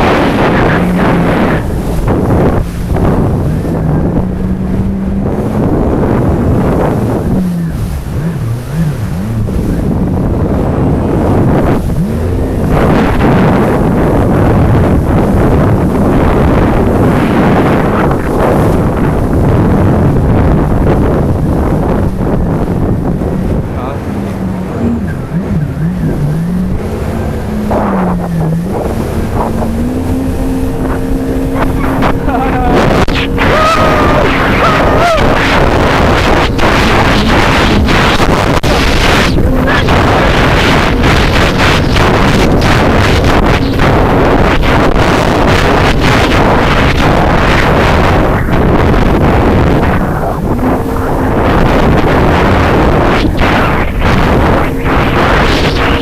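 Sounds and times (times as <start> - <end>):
jet ski engine: 0.0 - 56.0
wind rumble on microphone: 0.0 - 56.0.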